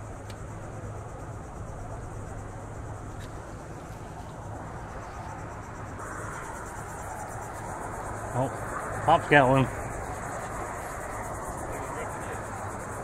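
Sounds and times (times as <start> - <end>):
insects chirring: 0.0 - 13.0
steady low hum: 0.0 - 13.0.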